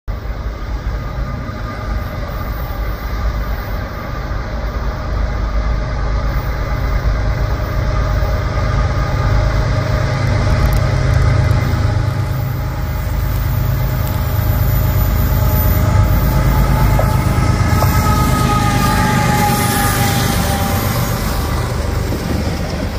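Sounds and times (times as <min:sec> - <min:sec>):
locomotive engine rumble: 0:00.1 - 0:22.9.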